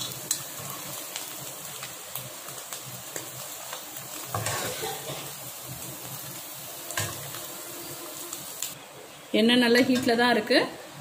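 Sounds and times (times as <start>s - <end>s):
hot oil sizzling: 0.0s - 10.4s.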